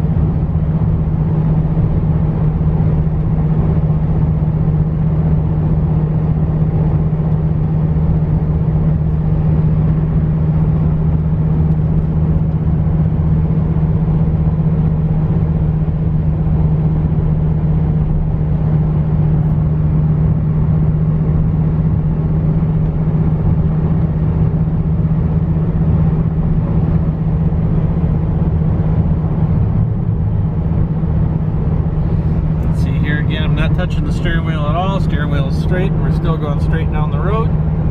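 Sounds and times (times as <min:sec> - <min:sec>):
car engine cruising: 0:00.0 - 0:37.9
road noise: 0:00.0 - 0:37.9.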